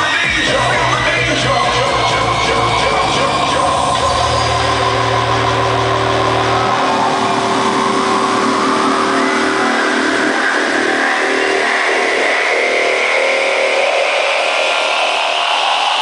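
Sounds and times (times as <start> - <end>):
house music build-up: 0.2 - 16.0
rising noise sweep: 2.0 - 16.0.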